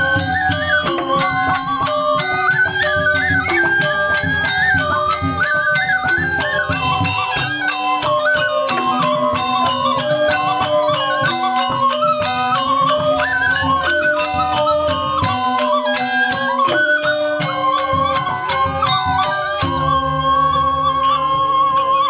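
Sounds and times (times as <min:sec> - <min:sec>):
metal-keyed instruments melody: 0:00.0 - 0:22.0.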